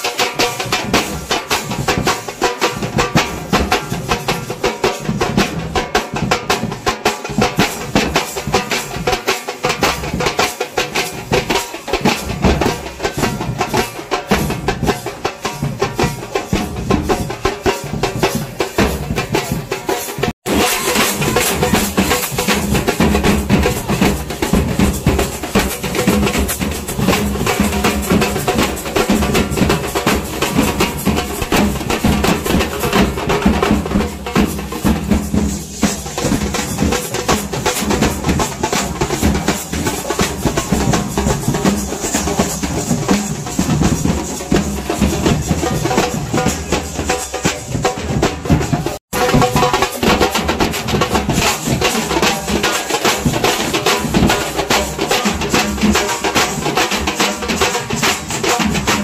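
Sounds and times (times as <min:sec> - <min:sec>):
rapid drumming: 0:00.0 - 0:59.0.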